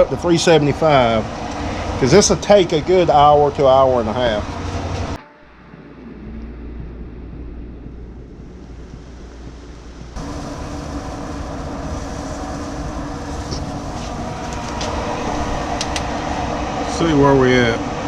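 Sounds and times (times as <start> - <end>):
grill fan hum and whir: 0.0 - 18.0
low rumble: 0.0 - 18.0.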